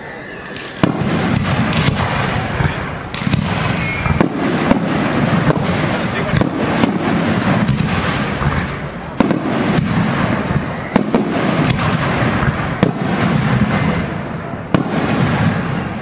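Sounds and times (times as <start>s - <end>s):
steady din of fireworks display: 0.0s - 16.0s
firework shells bursting: 0.4s - 16.0s.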